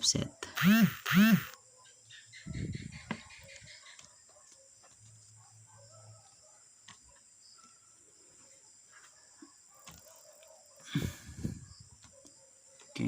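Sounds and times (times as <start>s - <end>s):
crickets chirring: 1.5s - 13.0s.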